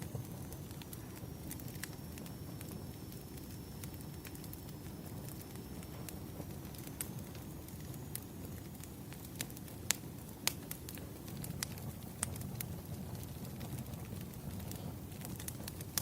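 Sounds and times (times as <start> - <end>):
fire crackles and pops: 0.0 - 16.0
wood fire flames rumbling: 0.0 - 16.0.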